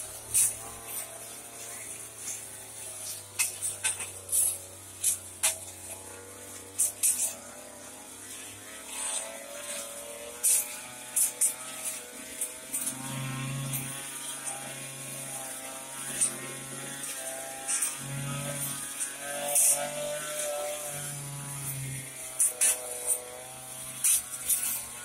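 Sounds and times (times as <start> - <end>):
brush cutter cutting grass: 0.0 - 25.0.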